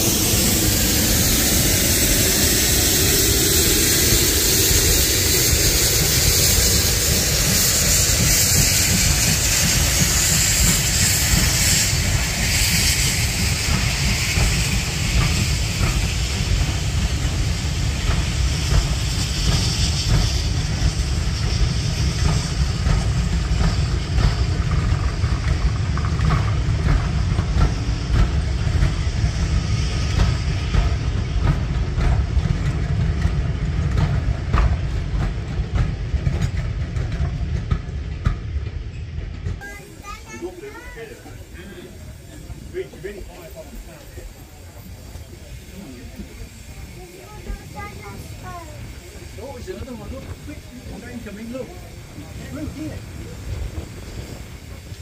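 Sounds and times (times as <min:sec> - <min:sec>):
train coaches rumbling past: 0:00.0 - 0:55.0.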